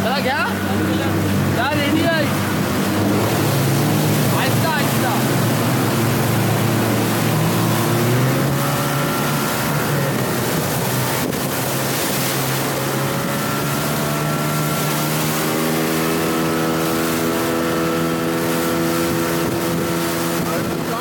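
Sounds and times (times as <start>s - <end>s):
outboard motor drone: 0.0s - 21.0s
rushing water and wind: 0.0s - 21.0s.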